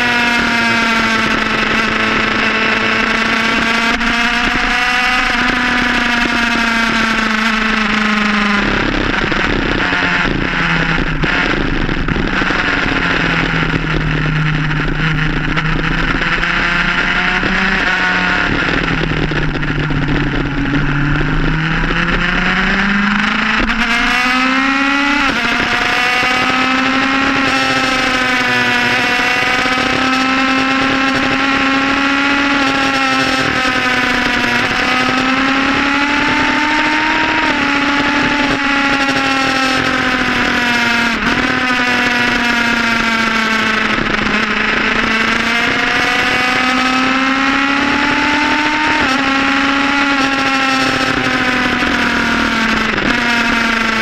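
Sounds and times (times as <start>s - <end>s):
motorcycle engine revving: 0.0s - 54.0s
wind noise: 0.0s - 54.0s.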